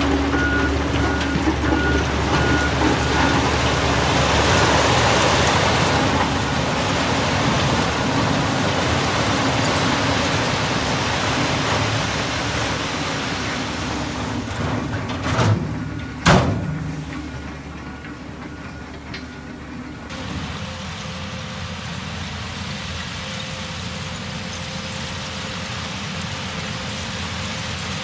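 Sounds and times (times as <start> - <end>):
diesel engine: 0.0 - 28.0.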